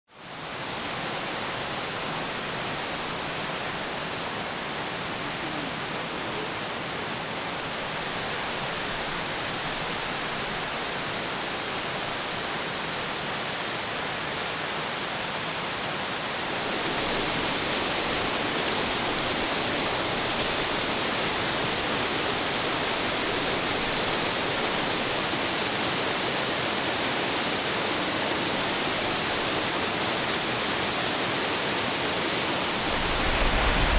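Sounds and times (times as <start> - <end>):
stream rushing: 0.1 - 33.9.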